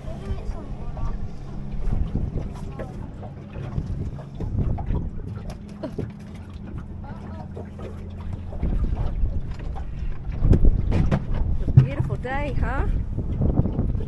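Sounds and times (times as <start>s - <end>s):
steady low hum: 0.0s - 14.0s
wind buffeting microphone: 0.0s - 14.0s.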